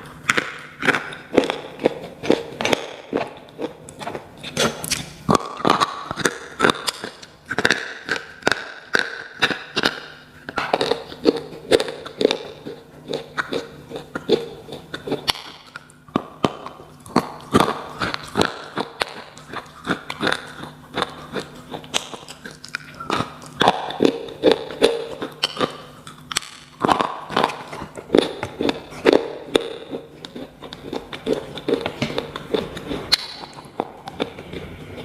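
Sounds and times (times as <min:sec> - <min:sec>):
chewing crunches and snaps: 0:00.0 - 0:35.0.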